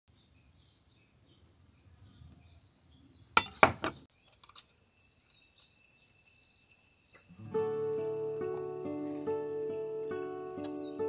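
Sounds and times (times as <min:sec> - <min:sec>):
insects chorus: 0:00.1 - 0:11.0.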